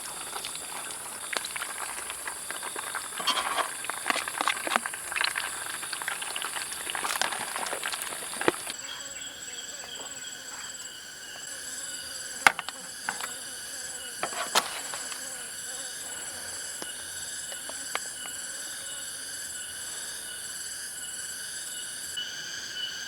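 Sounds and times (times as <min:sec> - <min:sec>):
insects trilling and chirping: 0:00.0 - 0:23.0
rapid pulsing insect chirp: 0:00.0 - 0:23.0.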